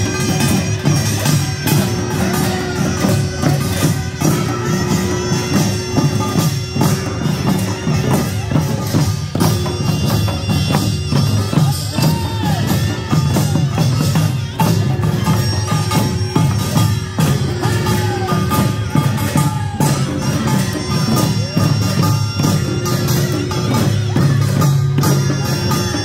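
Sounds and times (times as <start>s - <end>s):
drums beating in rhythm: 0.0s - 26.0s.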